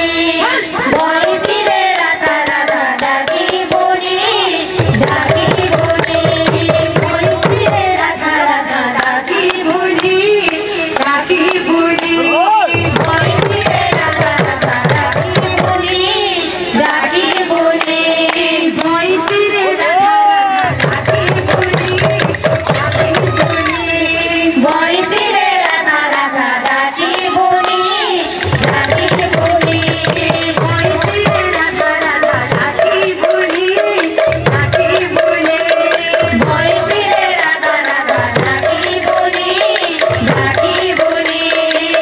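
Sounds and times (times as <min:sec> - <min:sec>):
woman singing: 0:00.0 - 0:42.0.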